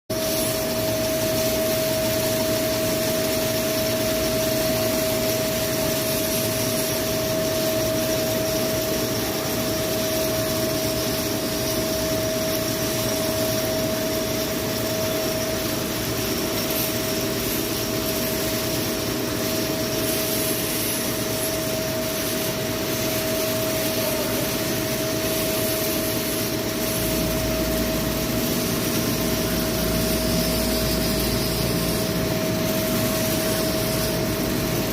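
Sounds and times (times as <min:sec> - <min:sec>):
lathe machining noise: 0:00.1 - 0:34.9
constant whining tone: 0:00.2 - 0:34.9.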